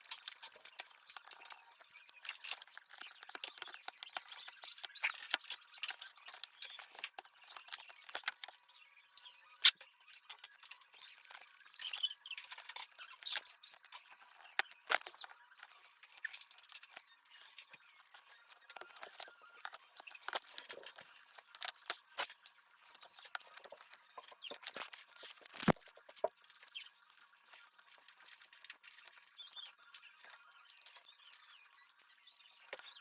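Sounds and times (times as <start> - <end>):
small tools clicking and scraping: 0.0 - 33.0.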